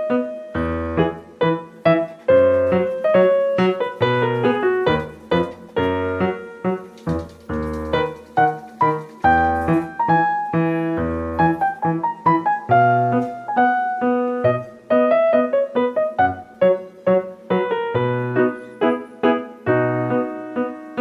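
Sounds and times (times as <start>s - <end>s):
lively piano music: 0.0s - 21.0s.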